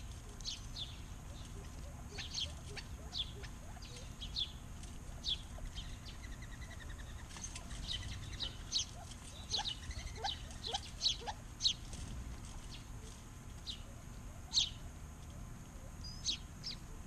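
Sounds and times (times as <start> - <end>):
bird trill: 0.0 - 11.8, 13.6 - 14.9, 16.0 - 17.0
small birds chirping: 0.0 - 17.0.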